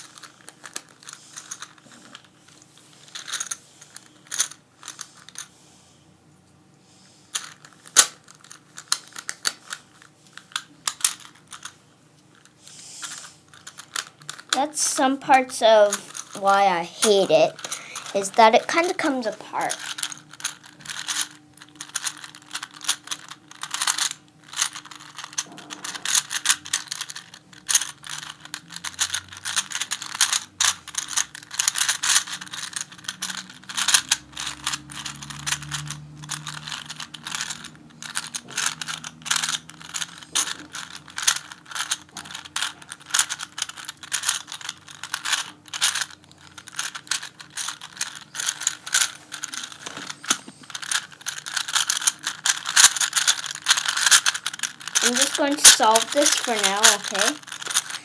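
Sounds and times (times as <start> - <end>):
puzzle cube clicking as turned: 0.0 - 2.3, 3.0 - 5.5, 7.3 - 11.7, 12.3 - 14.6, 16.0 - 16.4, 19.7 - 58.0.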